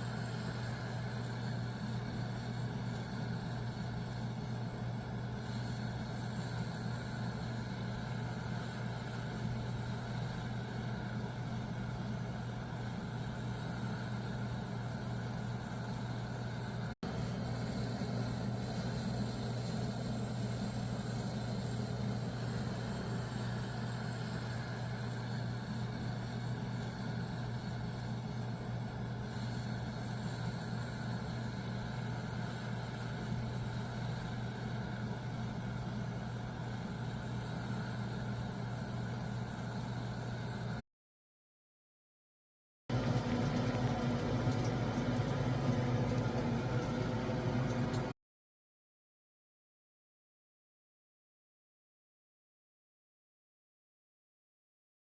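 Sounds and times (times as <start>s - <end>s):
low mechanical hum: 0.0s - 40.8s, 42.9s - 48.2s.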